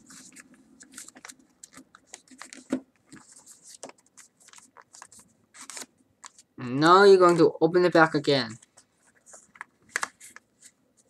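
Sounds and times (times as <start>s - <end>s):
paper crinkling and rustling: 0.0s - 6.5s, 8.4s - 11.0s.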